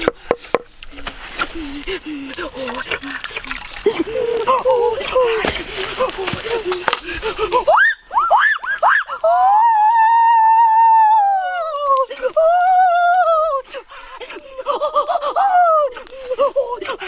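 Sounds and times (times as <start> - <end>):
boy wailing and yelping: 1.5 - 17.0.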